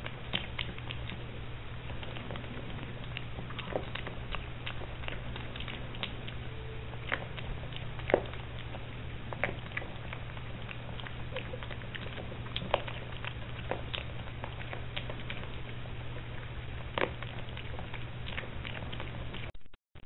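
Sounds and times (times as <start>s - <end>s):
piglet crunching feed pellets: 0.0s - 19.5s
steady low hum: 0.0s - 19.7s.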